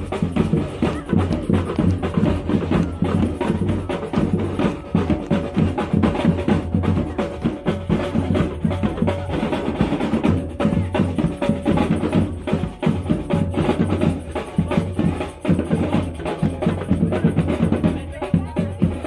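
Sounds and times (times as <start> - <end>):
percussion music with drums: 0.0 - 19.0.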